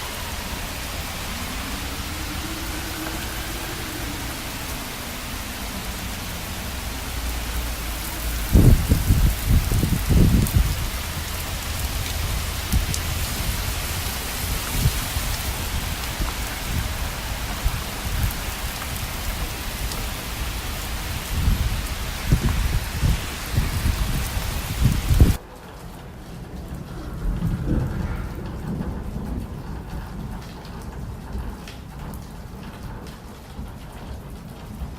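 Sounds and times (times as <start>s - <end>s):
thunder rumbling: 0.0s - 33.0s
heavy rain: 0.0s - 34.9s.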